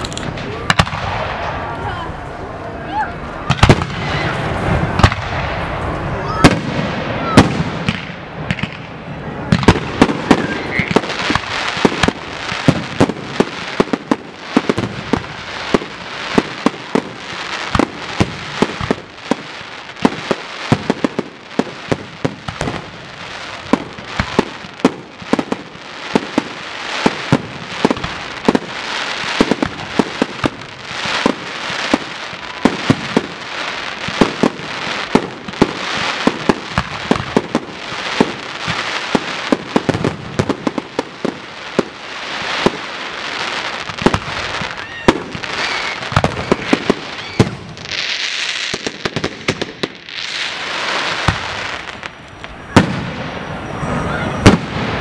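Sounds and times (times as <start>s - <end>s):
fireworks bangs: 0.0s - 55.0s
fireworks crackle: 0.0s - 55.0s.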